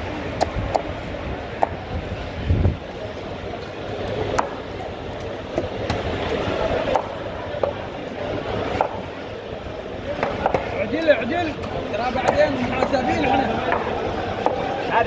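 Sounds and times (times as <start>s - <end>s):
steady background din: 0.0s - 15.0s.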